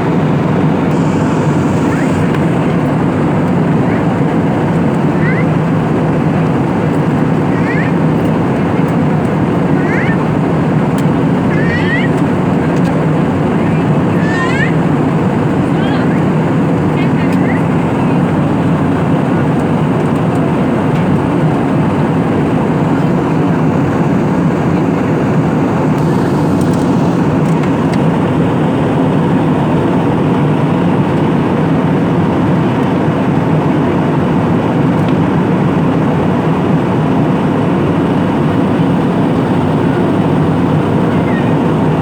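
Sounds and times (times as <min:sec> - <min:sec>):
airliner cabin engine drone: 0:00.0 - 0:42.0.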